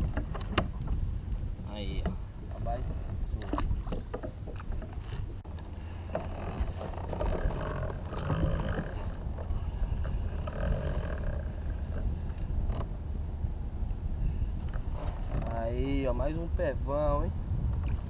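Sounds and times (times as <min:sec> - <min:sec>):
water sloshing against kayak hull: 0:00.0 - 0:13.5, 0:14.2 - 0:16.3
wind rumble on microphone: 0:00.0 - 0:18.0.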